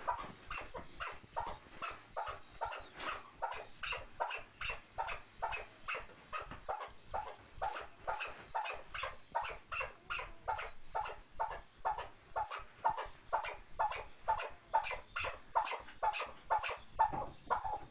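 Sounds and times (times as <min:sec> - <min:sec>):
partridge calling: 0:00.0 - 0:17.9.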